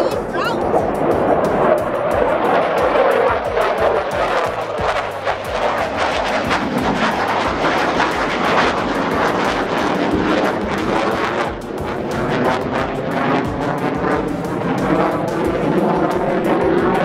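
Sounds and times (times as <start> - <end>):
fighter jet flying overhead: 0.0 - 17.0.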